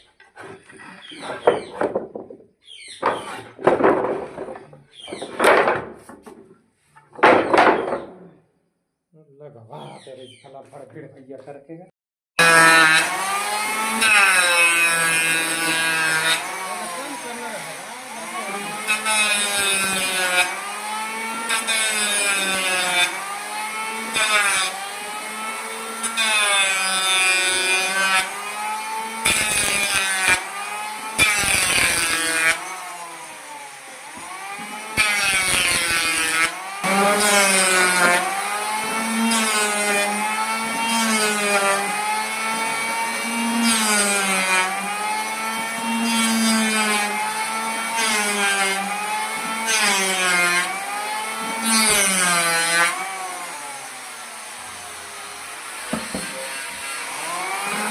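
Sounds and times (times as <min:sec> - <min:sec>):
power tool cutting wood: 0:00.0 - 0:06.5, 0:12.4 - 0:57.9.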